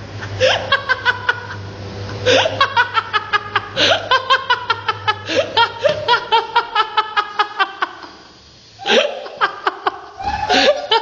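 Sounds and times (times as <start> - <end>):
tumble dryer humming: 0.0 - 11.0
person laughing: 0.2 - 1.6, 2.2 - 11.0.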